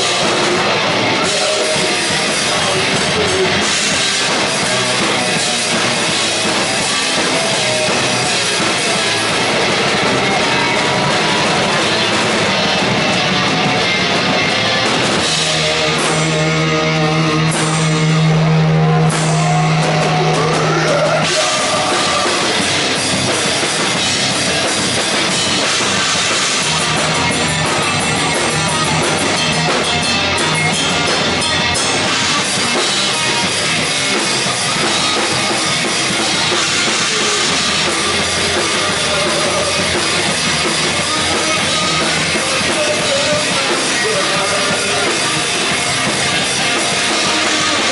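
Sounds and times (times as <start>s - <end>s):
bass guitar: 0.0s - 47.9s
distorted electric guitar: 0.0s - 47.9s
drum kit: 0.0s - 47.9s.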